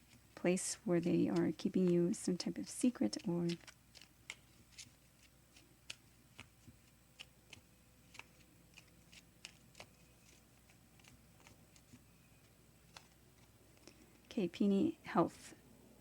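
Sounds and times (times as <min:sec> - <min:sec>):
cards clicking and tapping: 0:00.0 - 0:00.4, 0:01.0 - 0:14.3.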